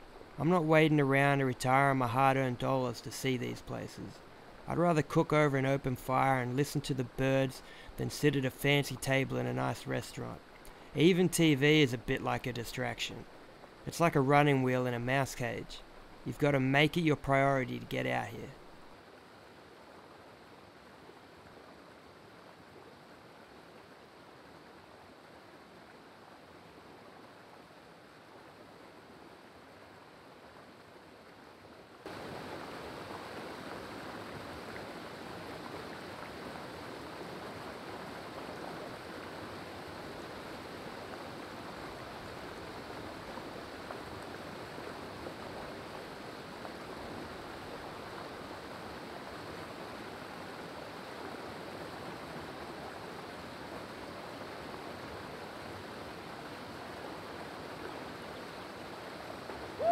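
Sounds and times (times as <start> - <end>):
creek water running over rocks: 0.0 - 59.9.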